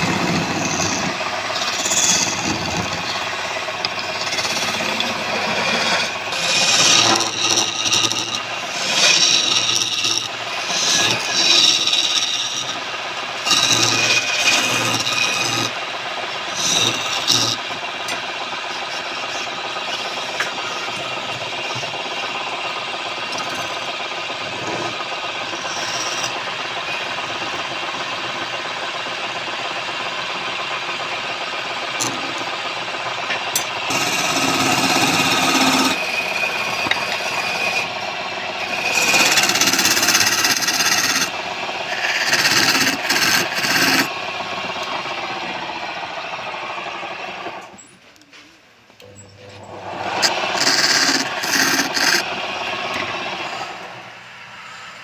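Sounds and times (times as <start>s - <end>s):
wood lathe motor hum: 0.0s - 47.7s, 49.6s - 54.9s
tool scraping spinning wood: 0.0s - 48.1s, 49.5s - 54.0s.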